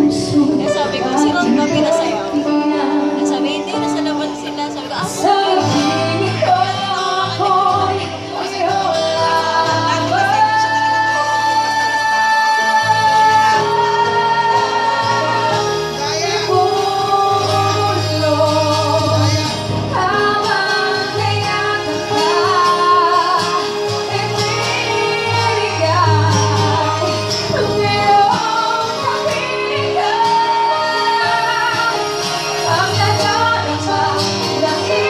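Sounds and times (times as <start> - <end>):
guitar: 0.0 - 35.0
keyboard: 0.0 - 35.0
woman singing into microphone: 0.0 - 35.0.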